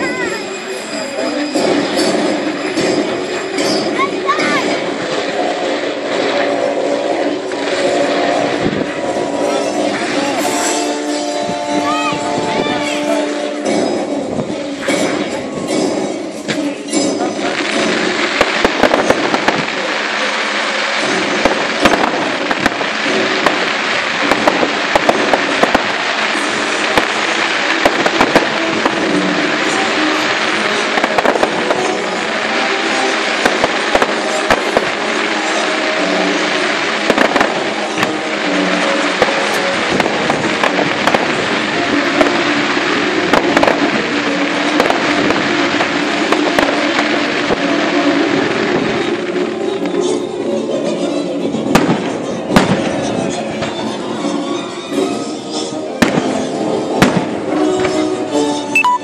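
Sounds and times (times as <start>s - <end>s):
fireworks hissing: 0.0s - 59.0s
fireworks popping and banging: 0.0s - 59.0s.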